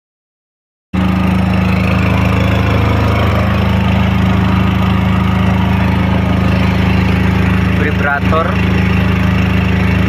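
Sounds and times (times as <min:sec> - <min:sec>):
generator engine humming: 0:01.0 - 0:10.0.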